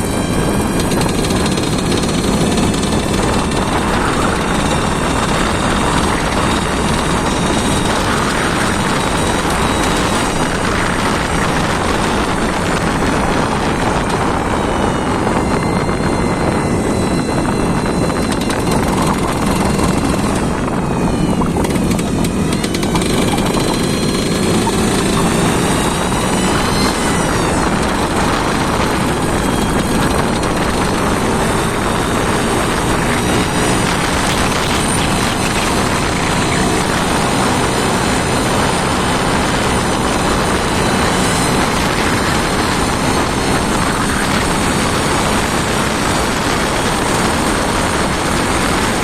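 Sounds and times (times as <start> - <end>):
engine running loudly: 0.0 - 49.0.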